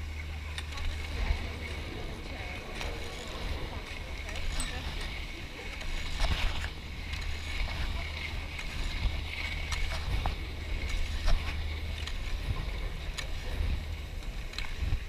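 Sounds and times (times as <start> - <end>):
skis scraping over snow: 0.0 - 15.0
wind rumble on microphone: 0.0 - 15.0.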